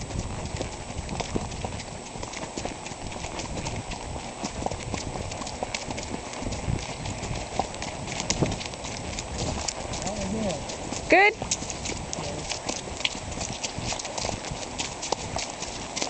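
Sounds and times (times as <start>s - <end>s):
horse hooves clip-clopping on asphalt: 0.0s - 16.0s.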